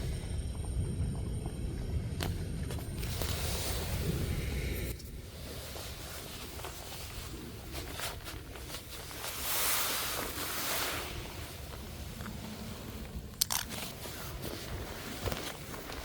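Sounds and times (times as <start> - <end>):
sea: 0.0 - 16.0
wind on microphone: 0.0 - 16.0.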